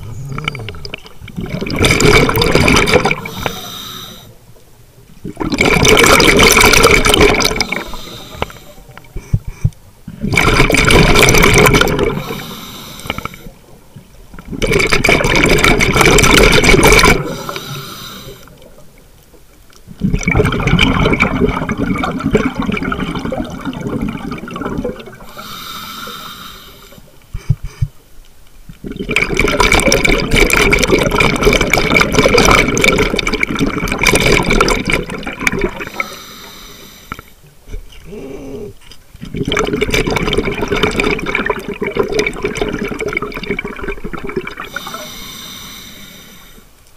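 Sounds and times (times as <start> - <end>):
underwater exhaled bubbles: 0.0 - 4.4, 5.2 - 19.0, 19.9 - 28.0, 28.7 - 46.7.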